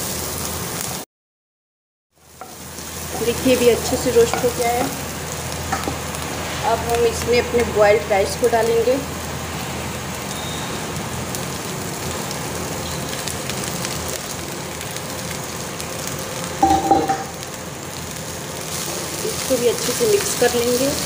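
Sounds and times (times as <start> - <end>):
vegetables and rice sizzling in pan: 0.0 - 1.0, 2.2 - 21.0.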